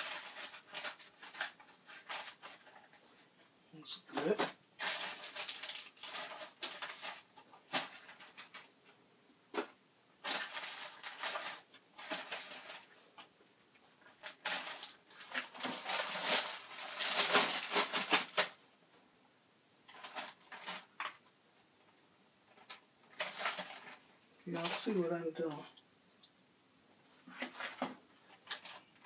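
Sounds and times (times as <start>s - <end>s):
plastic bag crinkling and rustling: 0.0s - 3.3s, 4.1s - 18.6s, 19.9s - 21.3s, 22.5s - 25.7s, 27.2s - 29.0s.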